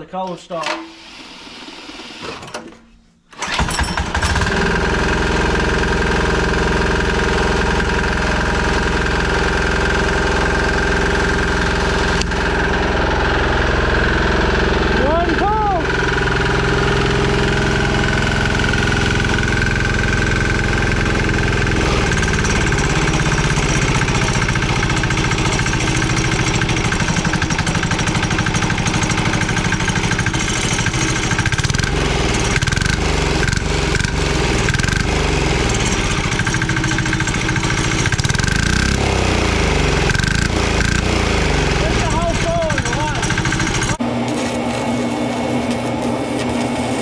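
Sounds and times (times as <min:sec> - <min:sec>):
diesel engine clattering: 0:03.4 - 0:45.2.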